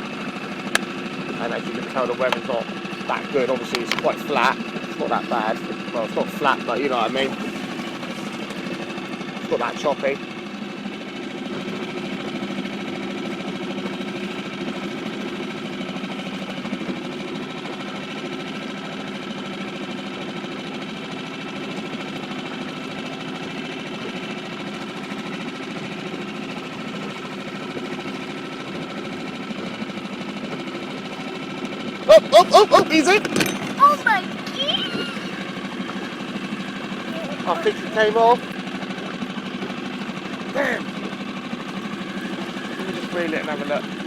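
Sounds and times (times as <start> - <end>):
small outboard motor running: 0.0 - 44.0.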